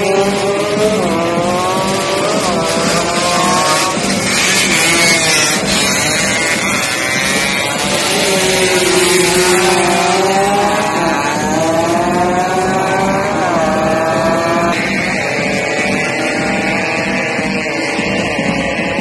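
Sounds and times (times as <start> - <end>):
motorcycle engines at full throttle: 0.0 - 19.0.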